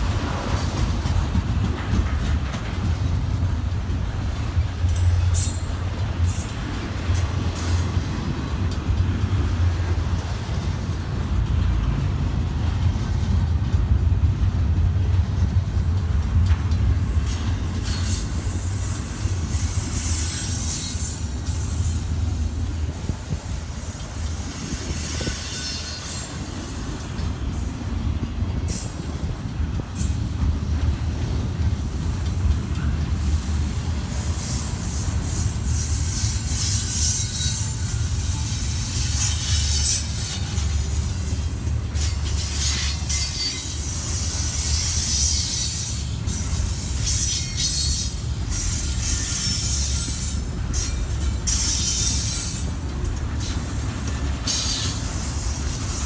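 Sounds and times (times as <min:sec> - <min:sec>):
wheels squealing against rails: 0:00.0 - 0:08.7, 0:14.8 - 0:56.0
freight train cars rolling: 0:00.0 - 0:56.0.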